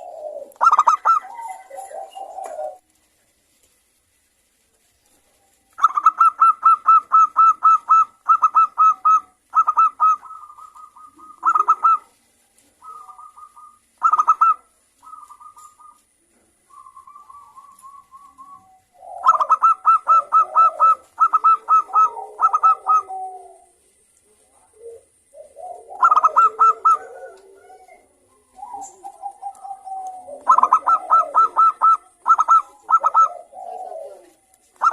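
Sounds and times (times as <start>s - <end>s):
doves calling staccato notes: 0.0s - 2.8s, 5.7s - 12.1s, 12.8s - 16.1s, 16.7s - 23.7s, 25.3s - 34.9s
low cooing: 0.0s - 2.8s, 5.8s - 12.2s, 12.8s - 34.9s.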